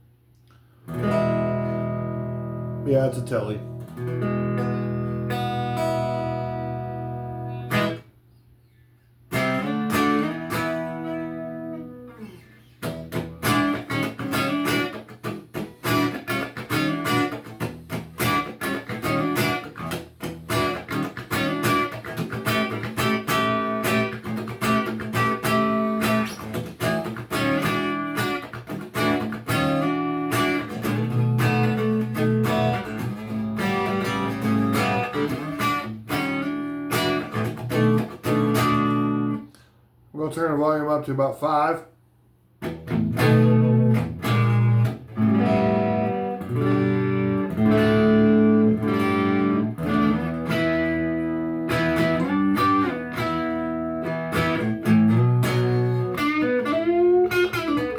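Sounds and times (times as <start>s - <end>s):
electric guitar chords and riffs: 0.5s - 8.2s, 9.3s - 39.8s, 42.6s - 57.9s.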